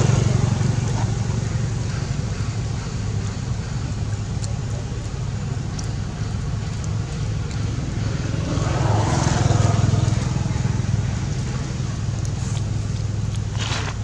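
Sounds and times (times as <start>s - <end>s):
road traffic rumble: 0.0s - 14.0s
vehicle passing close: 0.0s - 14.0s.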